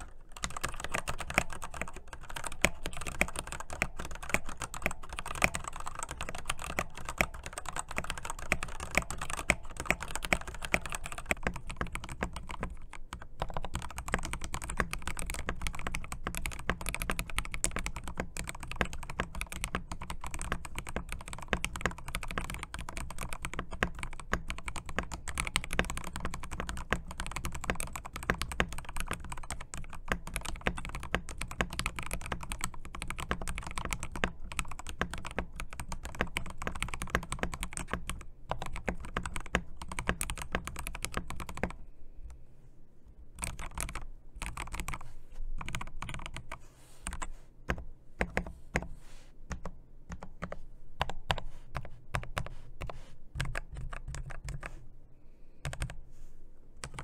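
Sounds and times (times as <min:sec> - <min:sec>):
fast typing on mechanical keyboard: 0:00.0 - 0:41.8, 0:43.4 - 0:48.9, 0:49.5 - 0:54.8, 0:55.6 - 0:56.0, 0:56.8 - 0:57.0.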